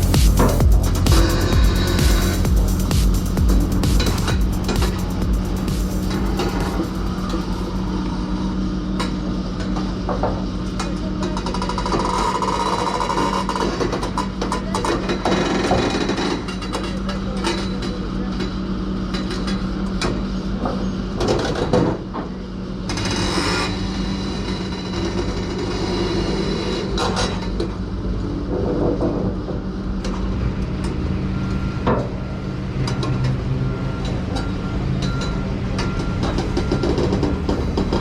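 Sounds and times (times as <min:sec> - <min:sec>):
heavy diesel machinery running: 0:00.0 - 0:38.0.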